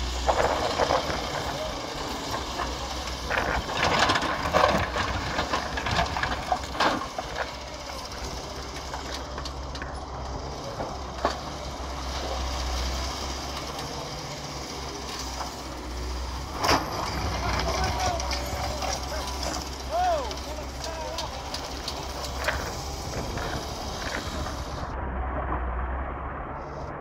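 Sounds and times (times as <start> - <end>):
excavator diesel engine running: 0.0 - 27.0
knocks and clatters: 0.2 - 14.0, 15.1 - 24.8.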